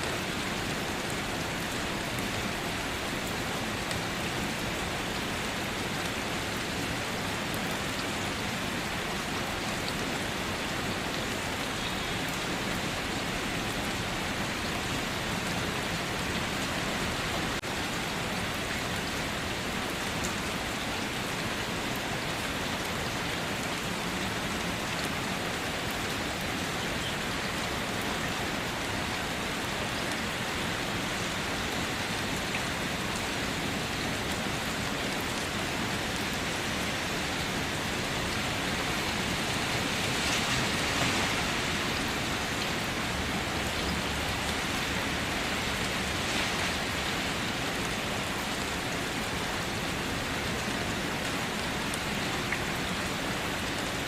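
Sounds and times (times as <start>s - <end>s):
individual raindrops on surfaces: 0.0s - 54.0s
rain hissing: 0.0s - 54.0s.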